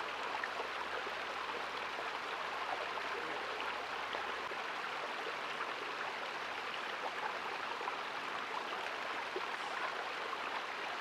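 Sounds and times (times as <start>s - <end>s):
creek flowing and babbling: 0.0s - 11.0s
water trickles and drips: 0.0s - 11.0s.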